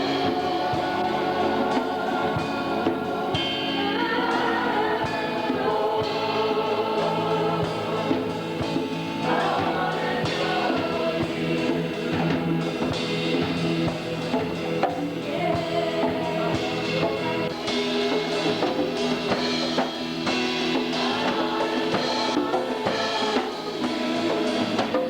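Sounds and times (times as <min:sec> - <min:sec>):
choir and congregation singing: 0:00.0 - 0:25.0
drum kit: 0:00.0 - 0:25.0
guitar: 0:00.0 - 0:25.0.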